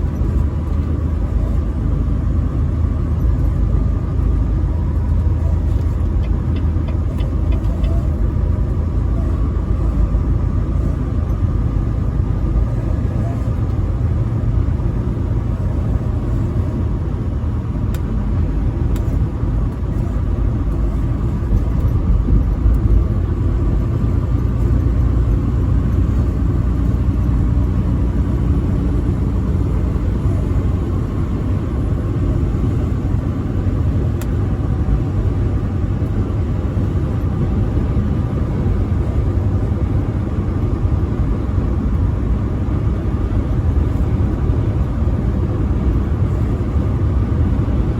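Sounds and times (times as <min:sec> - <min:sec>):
truck engine and road noise: 0:00.0 - 0:47.9.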